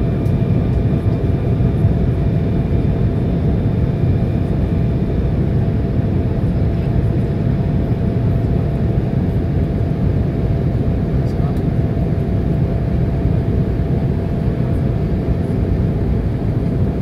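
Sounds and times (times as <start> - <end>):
jet engine cabin roar: 0.0 - 17.0.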